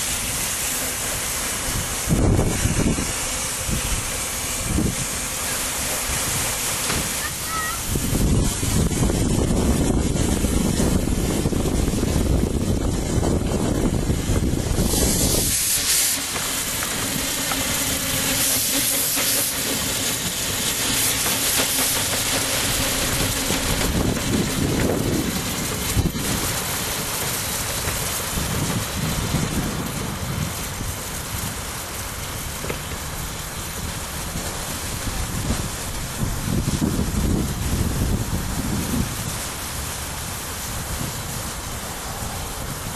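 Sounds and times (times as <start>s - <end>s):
steam locomotive hissing steam: 0.0s - 42.9s.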